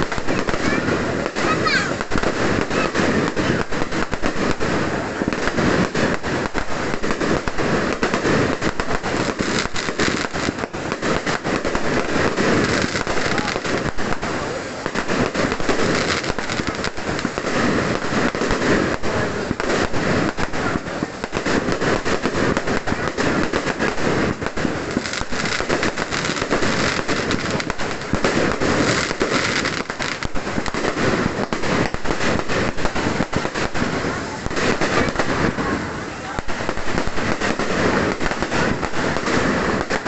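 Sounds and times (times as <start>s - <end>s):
firecrackers banging: 0.0s - 40.0s.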